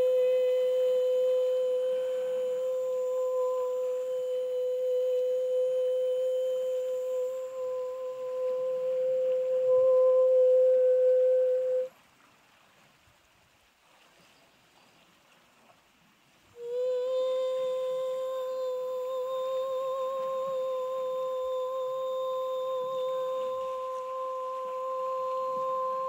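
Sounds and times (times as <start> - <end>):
person humming high note: 0.0 - 11.9, 16.6 - 26.0.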